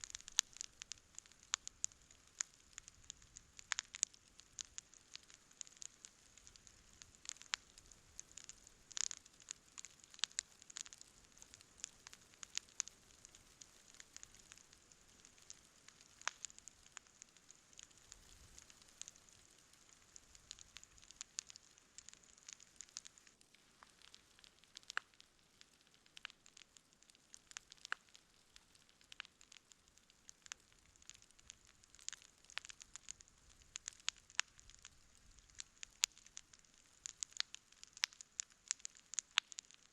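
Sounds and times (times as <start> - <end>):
campfire crackling and popping: 0.0 - 39.9
faint steady hiss: 0.0 - 39.9.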